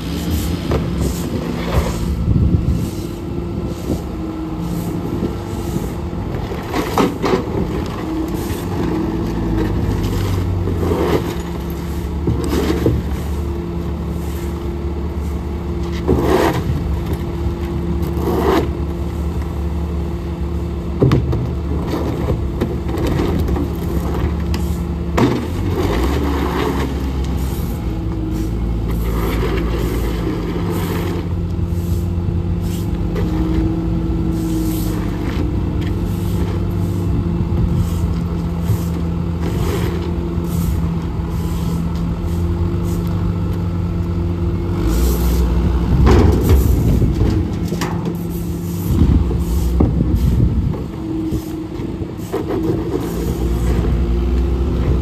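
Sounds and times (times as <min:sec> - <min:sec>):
shoveling debris on pavement: 0:00.0 - 0:19.3, 0:21.3 - 0:43.7, 0:44.7 - 0:55.0
bin dragged on pavement: 0:00.0 - 0:55.0
heavy equipment engines idling: 0:00.0 - 0:55.0.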